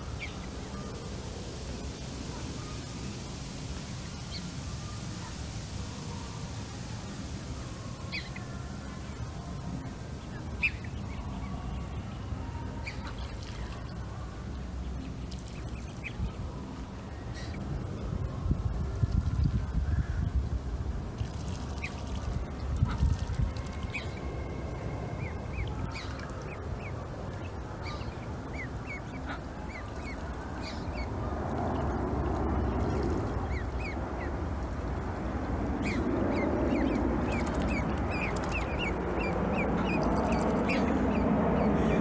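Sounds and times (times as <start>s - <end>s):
ducklings peeping: 0.0s - 18.2s, 21.1s - 42.0s
low background rumble: 0.0s - 42.0s.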